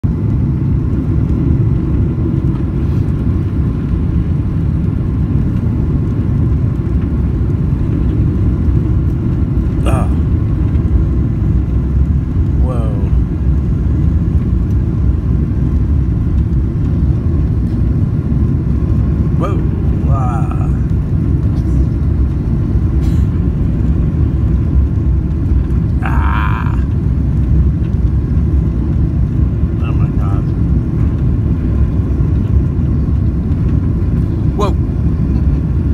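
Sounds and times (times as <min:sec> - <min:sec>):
jet airliner cabin rumble: 0:00.0 - 0:35.9.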